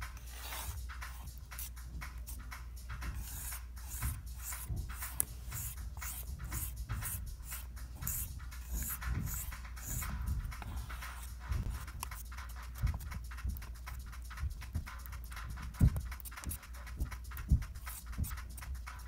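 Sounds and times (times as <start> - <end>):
palette knife scraping paint: 0.0 - 2.4, 3.0 - 19.0.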